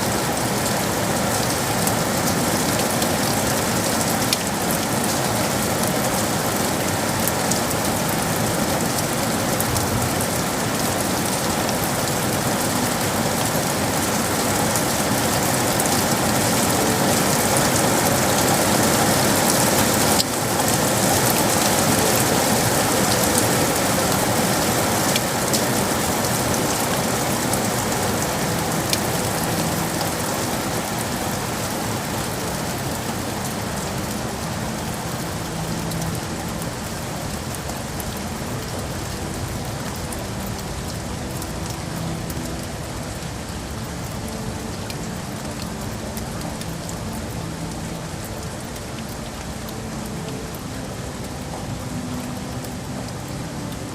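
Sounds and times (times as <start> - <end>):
rain on hard surfaces: 0.0 - 53.9.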